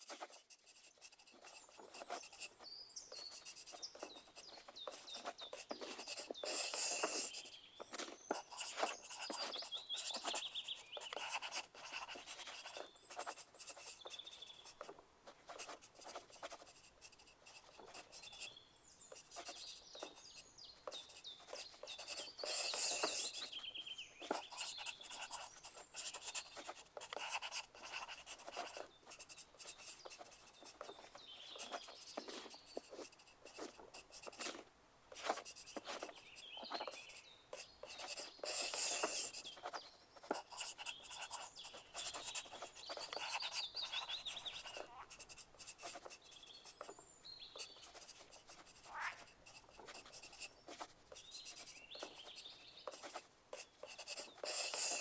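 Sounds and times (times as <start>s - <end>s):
pencils scratching on paper: 0.0s - 55.0s.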